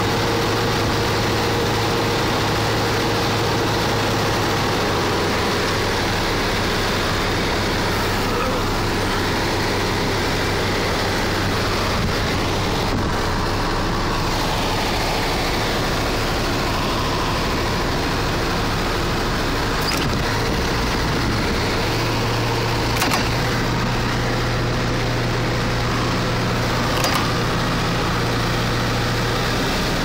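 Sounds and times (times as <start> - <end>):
diesel engines running: 0.0 - 30.0.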